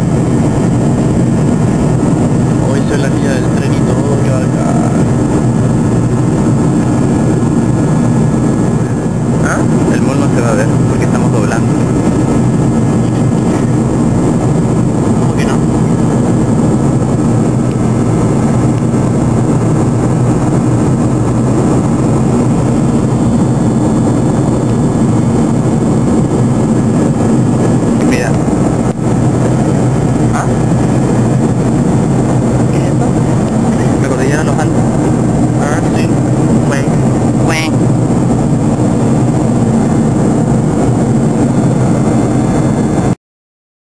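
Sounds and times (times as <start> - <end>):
jet engine roar in cabin: 0.0 - 43.2
steady hum: 0.0 - 43.2.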